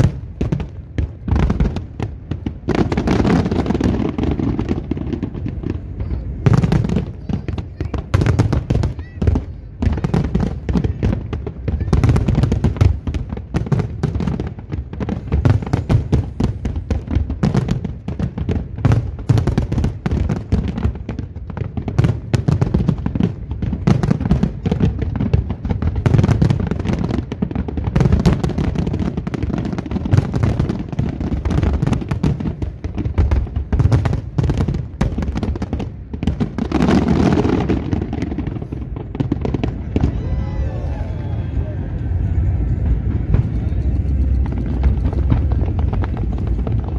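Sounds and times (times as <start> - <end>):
deep fireworks booms: 0.0 - 46.9
fireworks bursts and crackle: 0.0 - 46.9.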